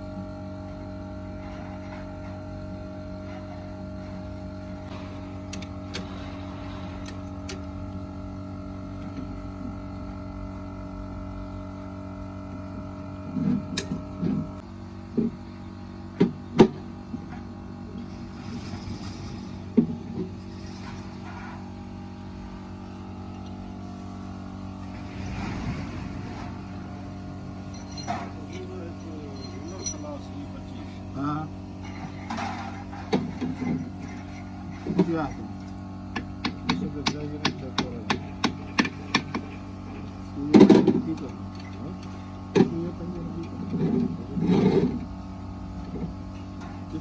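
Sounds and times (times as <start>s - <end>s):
mechanical hum: 0.0s - 47.0s.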